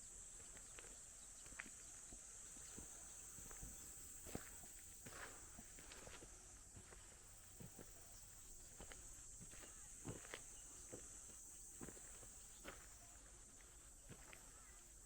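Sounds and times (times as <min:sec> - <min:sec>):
insects humming: 0:00.0 - 0:15.0
footsteps on ground: 0:00.4 - 0:15.0.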